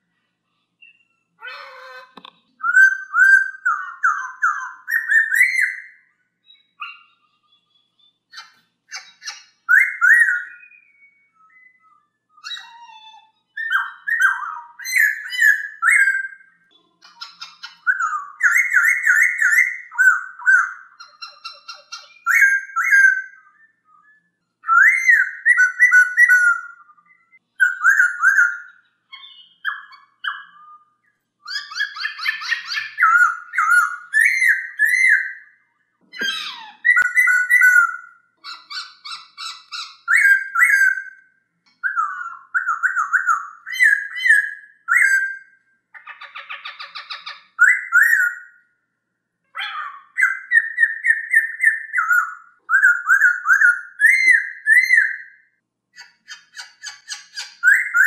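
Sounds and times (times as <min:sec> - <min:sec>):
bird singing whistled phrases: 0:00.8 - 0:48.7, 0:49.6 - 0:58.0.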